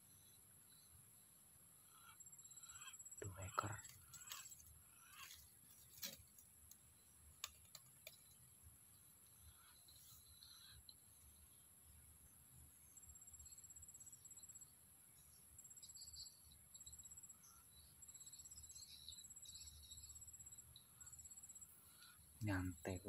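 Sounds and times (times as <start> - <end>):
insect chirping in high trills: 0.0 - 5.9, 7.0 - 23.0
faint bird chirps: 0.0 - 6.3, 6.9 - 23.0.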